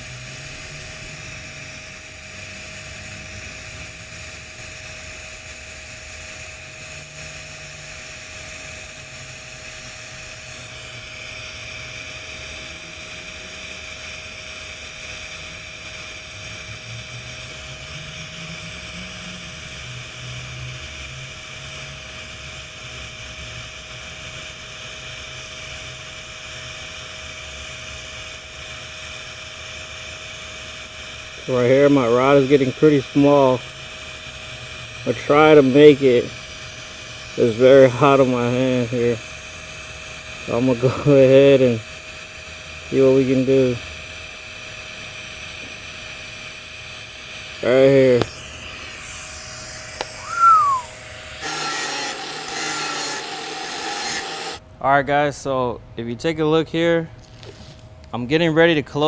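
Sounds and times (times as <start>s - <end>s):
welding arc hissing: 0.0s - 54.6s.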